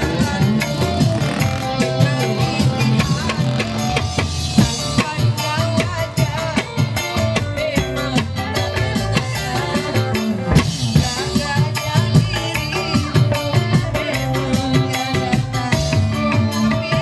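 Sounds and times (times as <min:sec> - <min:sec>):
drums: 0:00.0 - 0:17.0
electric guitar: 0:00.0 - 0:17.0
electronic keyboard: 0:00.0 - 0:17.0
woman singing into a microphone: 0:00.0 - 0:17.0.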